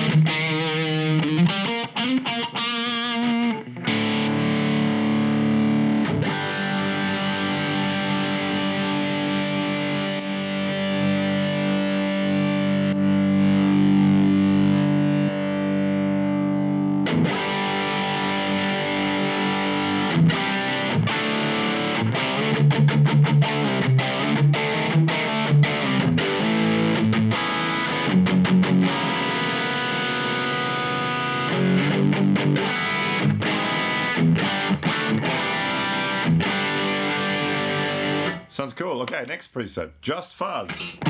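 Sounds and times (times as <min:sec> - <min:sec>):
distorted electric guitar: 0:00.0 - 0:39.4, 0:40.6 - 0:41.0.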